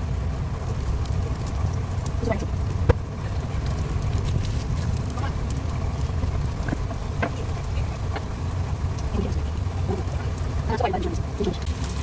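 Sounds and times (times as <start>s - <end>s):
patties sizzling in oil: 0.0s - 12.0s
steady low rumble: 0.0s - 12.0s.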